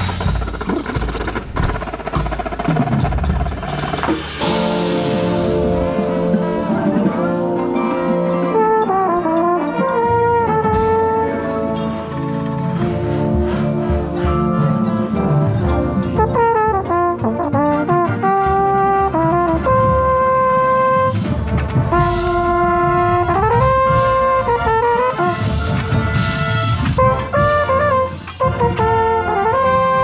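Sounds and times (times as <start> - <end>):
brass line playing: 4.3 - 30.0
mellophone: 4.3 - 30.0.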